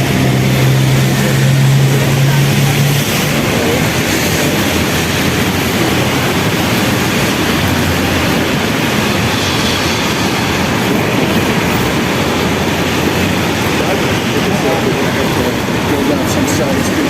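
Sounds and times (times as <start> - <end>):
traffic on wet streets: 0.0 - 17.0.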